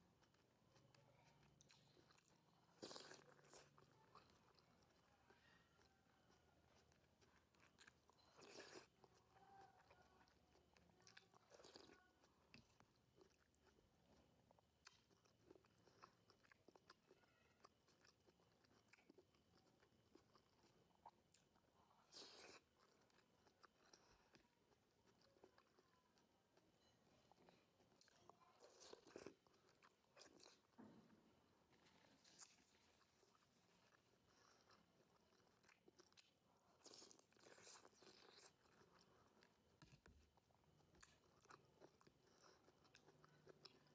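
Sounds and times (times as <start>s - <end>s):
person chewing: 0.2s - 43.9s.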